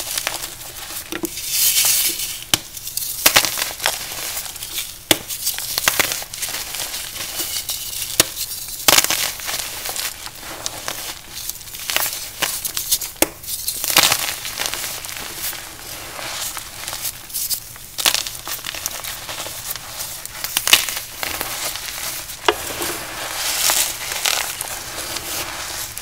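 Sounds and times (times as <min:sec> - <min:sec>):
powder blocks crunching: 0:03.2 - 0:26.0.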